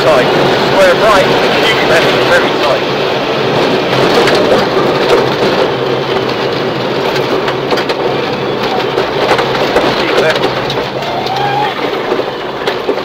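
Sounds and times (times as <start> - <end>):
car engine running hard: 0.0 - 13.0
tyres rushing on gravel: 0.0 - 13.0.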